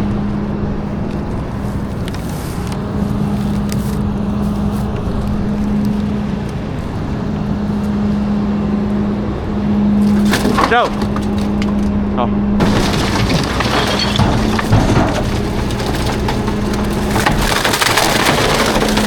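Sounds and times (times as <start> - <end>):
constant low hum: 0.0 - 19.0
garbage truck engine running: 0.0 - 19.0.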